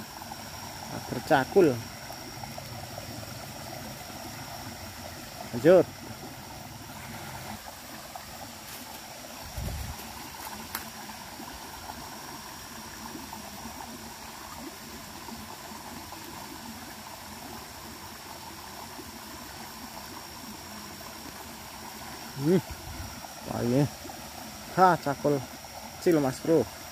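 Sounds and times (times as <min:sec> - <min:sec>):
stream trickling over rocks: 0:00.0 - 0:26.9.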